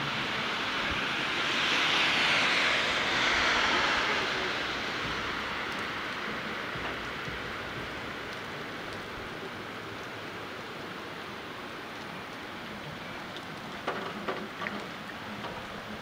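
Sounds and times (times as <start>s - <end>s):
rain falling on pavement: 0.0s - 16.0s.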